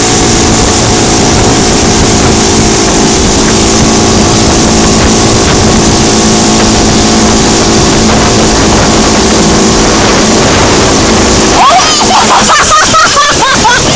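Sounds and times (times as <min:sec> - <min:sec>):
churning wake: 0:00.0 - 0:13.9
outboard motor running: 0:00.0 - 0:13.9
wind rushing: 0:00.0 - 0:13.9.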